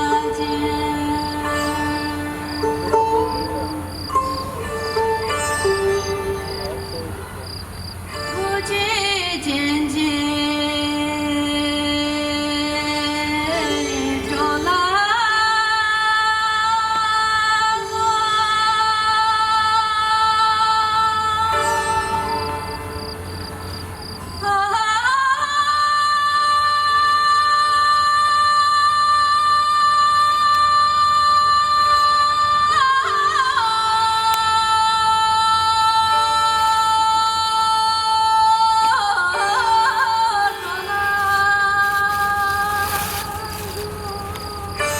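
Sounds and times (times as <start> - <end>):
woman singing devotional music: 0.0 - 7.0, 7.8 - 44.9.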